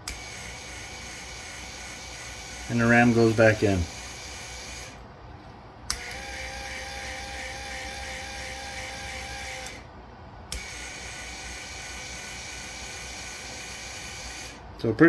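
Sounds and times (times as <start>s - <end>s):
actuator motor whirring: 0.0s - 5.1s, 5.9s - 14.7s.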